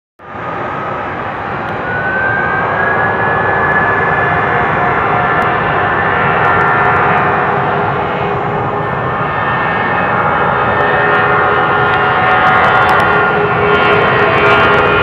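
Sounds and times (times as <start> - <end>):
jet engines at takeoff thrust: 0.2 - 15.0.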